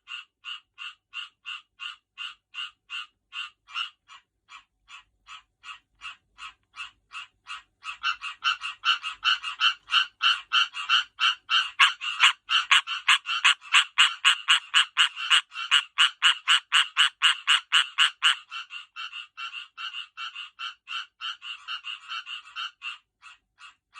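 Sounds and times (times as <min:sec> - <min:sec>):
tree frogs croaking: 0:00.0 - 0:23.8.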